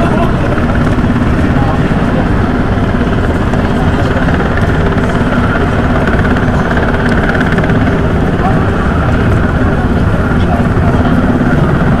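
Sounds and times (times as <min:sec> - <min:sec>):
high engine whine: 0:00.0 - 0:12.0
turboprop aircraft drone: 0:00.0 - 0:12.0.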